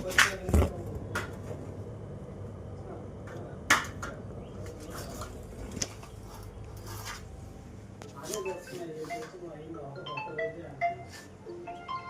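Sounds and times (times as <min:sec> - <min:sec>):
refrigerator hum: 0:00.0 - 0:11.7.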